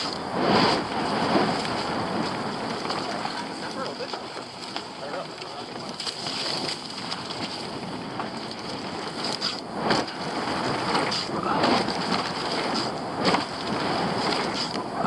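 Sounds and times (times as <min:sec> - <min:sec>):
bike tyre and drivetrain noise: 0:00.0 - 0:15.0
wind on microphone: 0:00.0 - 0:15.0.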